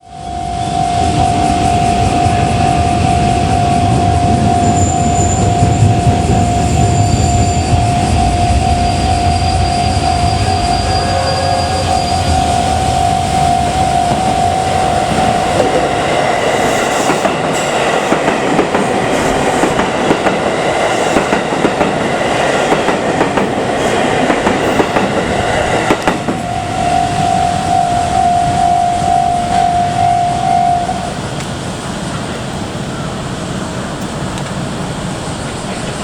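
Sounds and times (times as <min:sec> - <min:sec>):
electric train passing: 0:00.0 - 0:36.0
level crossing alarm ringing: 0:00.1 - 0:31.2
train wheels clicking on rails: 0:01.0 - 0:10.8, 0:11.8 - 0:30.0, 0:31.0 - 0:36.0.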